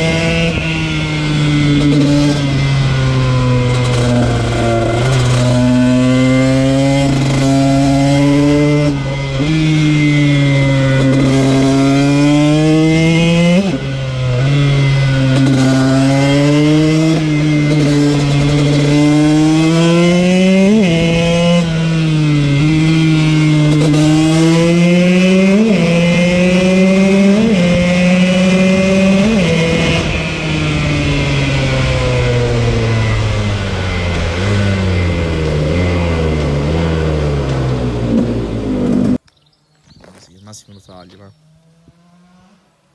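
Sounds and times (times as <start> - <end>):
motorcycle engine revving through gears: 0.0 - 39.2, 41.3 - 42.9.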